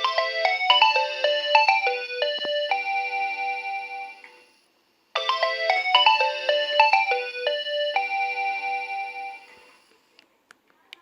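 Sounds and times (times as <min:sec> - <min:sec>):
electronic phone ringtone: 0:00.0 - 0:04.5, 0:05.2 - 0:09.8.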